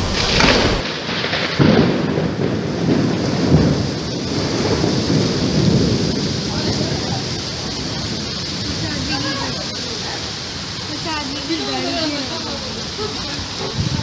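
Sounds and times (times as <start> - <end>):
heavy rain falling: 0.0 - 14.0
low thunder rumbling: 0.0 - 14.0.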